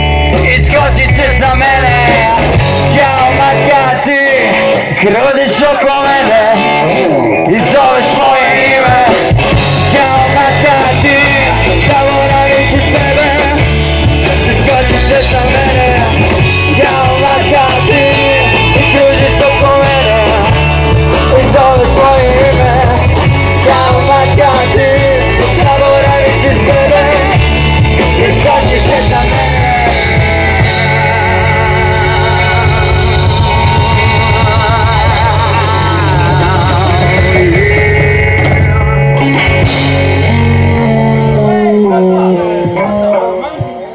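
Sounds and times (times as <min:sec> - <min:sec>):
bass guitar: 0:00.0 - 0:43.9
drums: 0:00.0 - 0:43.9
electric guitars: 0:00.0 - 0:43.9
lead vocal singing: 0:00.0 - 0:43.9.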